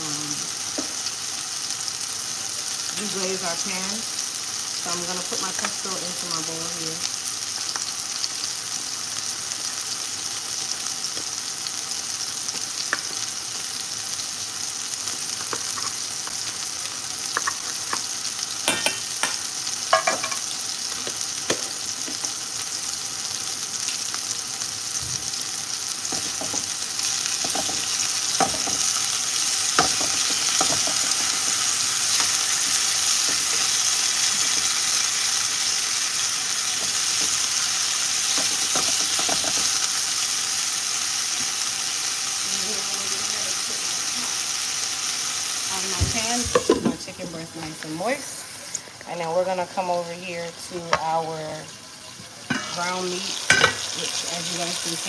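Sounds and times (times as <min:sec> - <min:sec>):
chicken sizzling in a skillet: 0:00.0 - 0:55.0.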